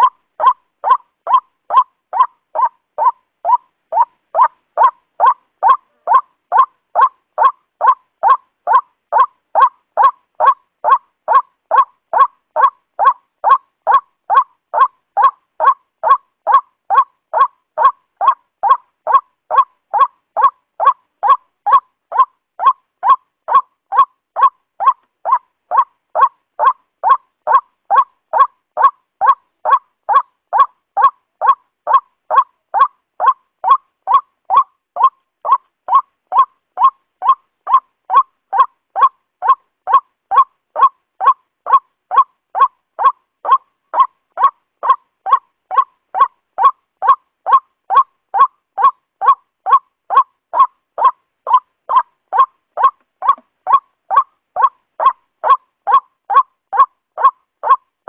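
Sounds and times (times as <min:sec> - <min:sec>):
waterhen calling: 0:00.0 - 0:57.8.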